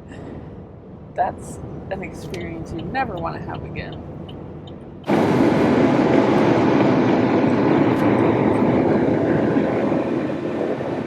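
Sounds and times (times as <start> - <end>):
vehicle road and engine noise: 0.0 - 11.0.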